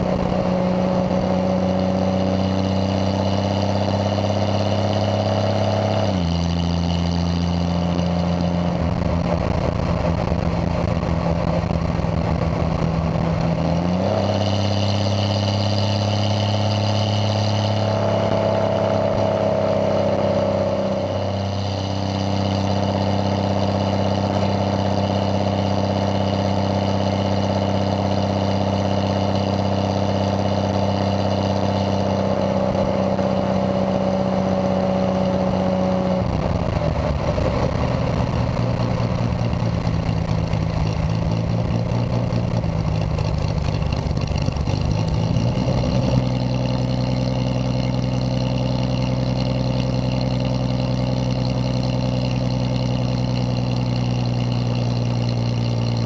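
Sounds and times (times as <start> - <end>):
car engine running while driving: 0.0 - 56.0.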